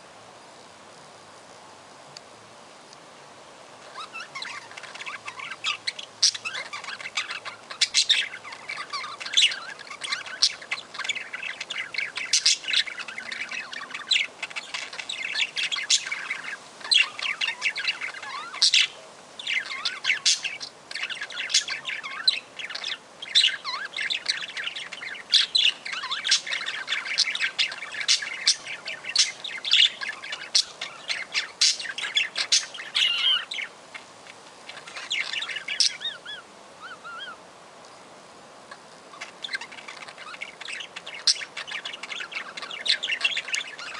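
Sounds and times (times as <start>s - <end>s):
budgerigar chirping: 3.9s - 34.1s, 34.7s - 37.4s, 39.1s - 43.9s.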